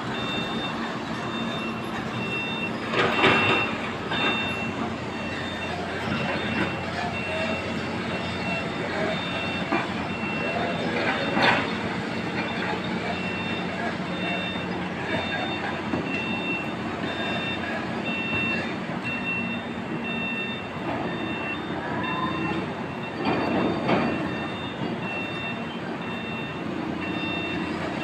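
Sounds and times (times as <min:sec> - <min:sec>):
reversing alarm beeping: 0:00.0 - 0:28.0.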